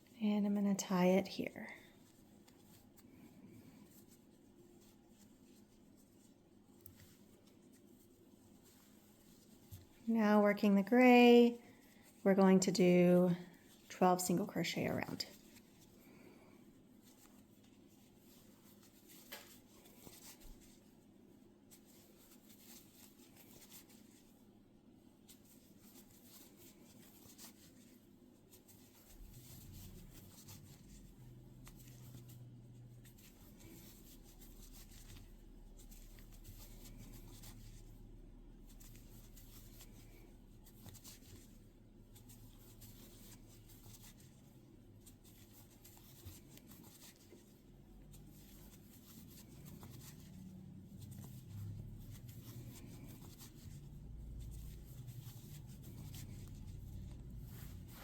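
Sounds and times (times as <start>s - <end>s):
low steady hum: 0.0s - 58.0s
yarn rustling: 0.0s - 58.0s.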